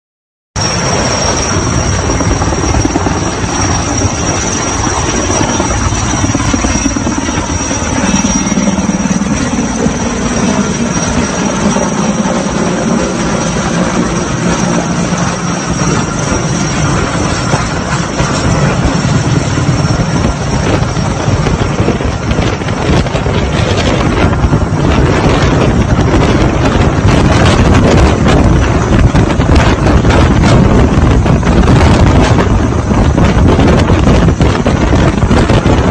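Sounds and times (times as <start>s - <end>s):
helicopter rotor and turbine noise: 0.6s - 35.9s.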